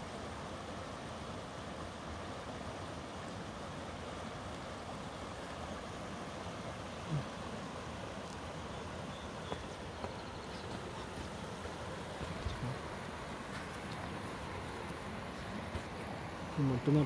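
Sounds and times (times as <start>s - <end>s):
creek rushing: 0.0s - 17.0s.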